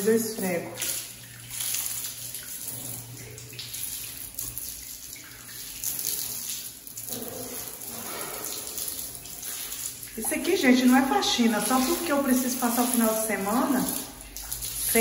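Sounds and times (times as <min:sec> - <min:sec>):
water jet splashing on countertop: 0:00.0 - 0:15.0.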